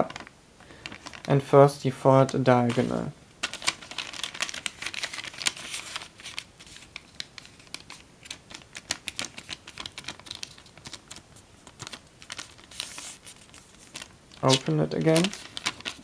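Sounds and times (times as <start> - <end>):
foil crinkling and crackling: 0.0 - 1.4, 2.2 - 16.0.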